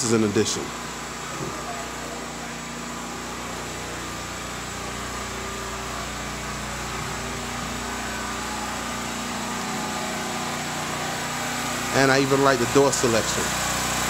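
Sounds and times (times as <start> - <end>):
motor droning: 0.0 - 14.0.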